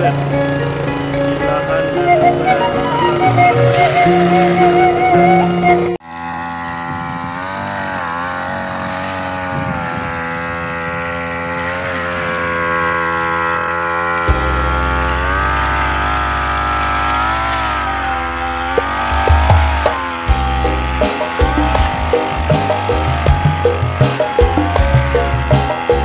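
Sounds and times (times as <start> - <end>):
small petrol engine running: 0.0 - 26.0.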